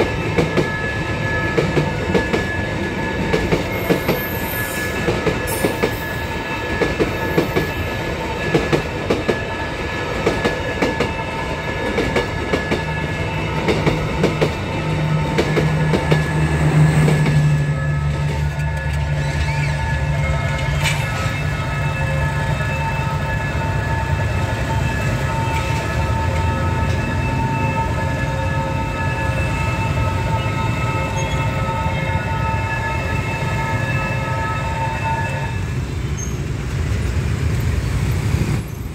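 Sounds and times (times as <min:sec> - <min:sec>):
crossing warning bell ringing: 0:00.0 - 0:36.4
train rumbling past: 0:00.0 - 0:38.9.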